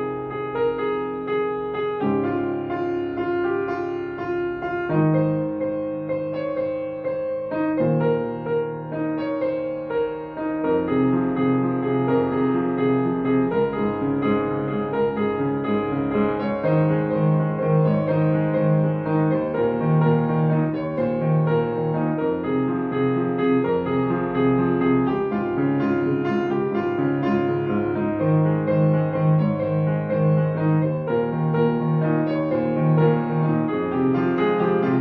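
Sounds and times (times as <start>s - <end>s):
grand piano playing: 0.0s - 35.0s.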